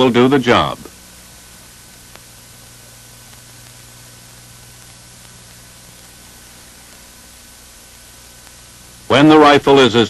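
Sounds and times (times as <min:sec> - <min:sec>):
film soundtrack hiss and hum: 0:00.0 - 0:10.0.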